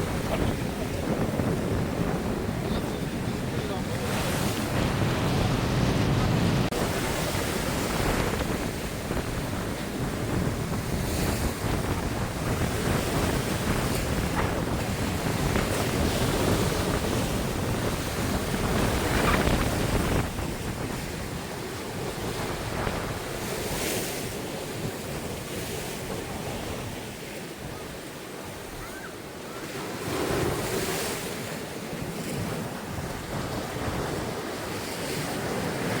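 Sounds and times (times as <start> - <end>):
surf washing onto beach: 0.0 - 36.0
wind buffeting microphone: 0.0 - 36.0.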